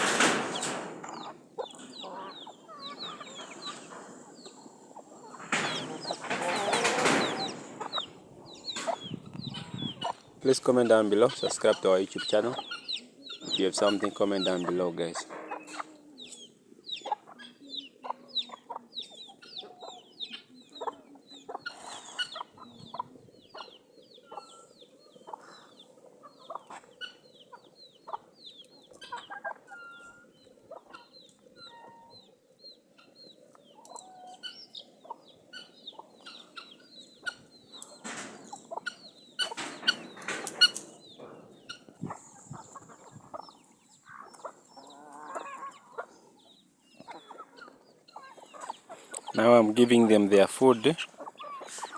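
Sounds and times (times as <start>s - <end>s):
chickens scuffling: 0.0s - 23.7s, 32.9s - 51.9s
chickens clucking and peeping: 0.0s - 51.9s.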